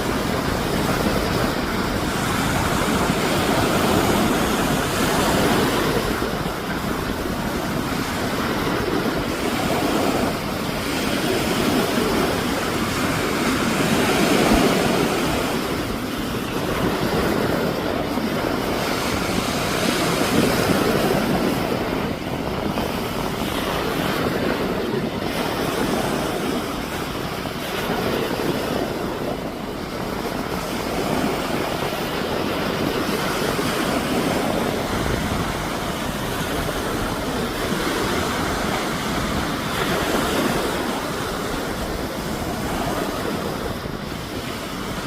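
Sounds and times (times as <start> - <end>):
strong wind and surf: 0.0 - 45.0.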